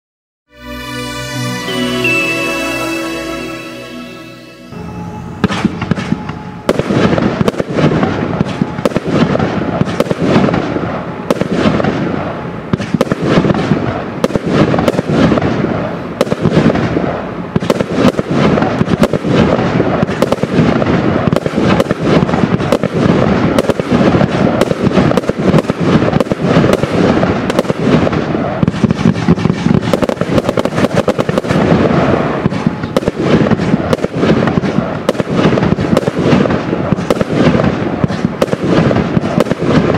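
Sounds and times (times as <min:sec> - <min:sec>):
fireworks barrage firing: 0:00.6 - 0:39.9.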